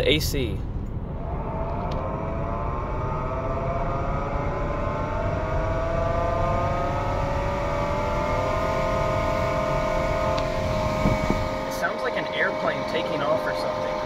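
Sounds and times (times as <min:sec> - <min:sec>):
low rumble: 0:00.0 - 0:14.0
blower motor whine: 0:00.6 - 0:14.0.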